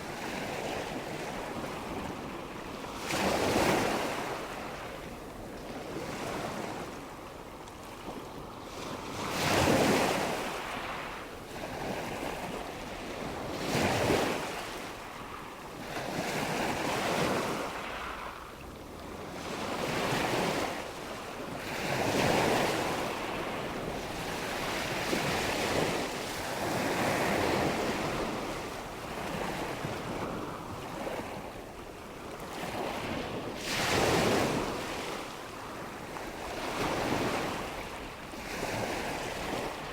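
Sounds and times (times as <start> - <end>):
wind and water noise: 0.0 - 39.9.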